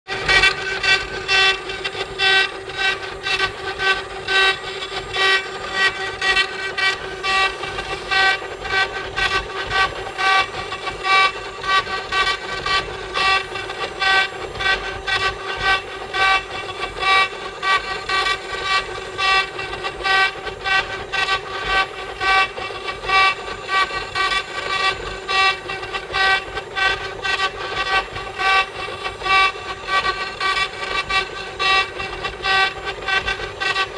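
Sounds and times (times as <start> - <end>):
carving machine motor whine: 0.1 - 33.9.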